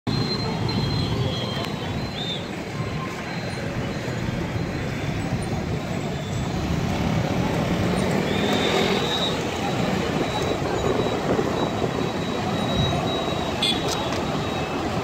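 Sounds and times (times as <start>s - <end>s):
road traffic rumble: 0.1s - 15.0s.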